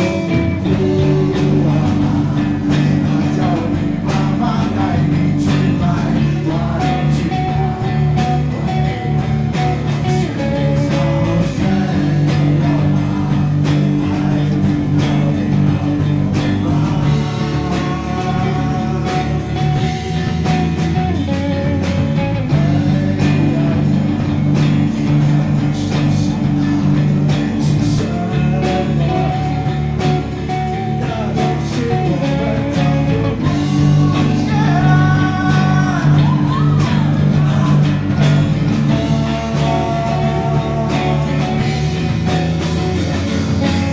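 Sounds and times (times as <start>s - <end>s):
live rock band playing: 0.0s - 43.9s
person singing: 0.0s - 43.9s.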